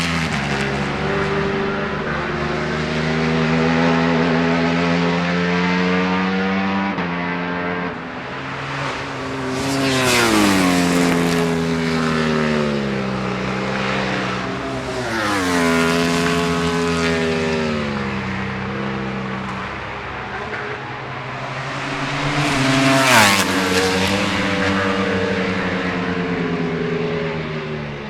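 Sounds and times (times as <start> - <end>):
motorbikes passing at high revs: 0.0 - 28.0.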